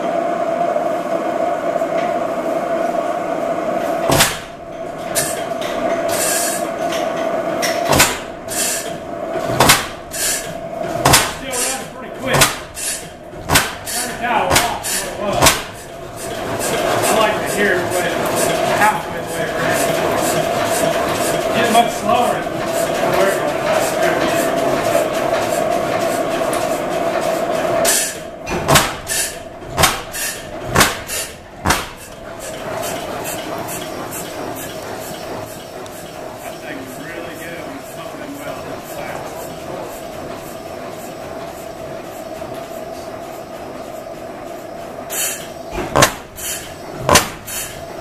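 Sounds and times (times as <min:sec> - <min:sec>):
engine exhaust reports: 0:00.0 - 0:48.0.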